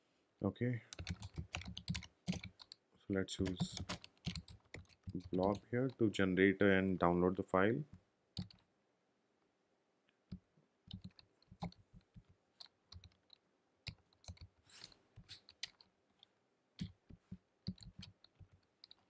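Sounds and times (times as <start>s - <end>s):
faint keyboard typing: 0.8s - 6.3s, 7.8s - 8.7s, 10.1s - 19.0s.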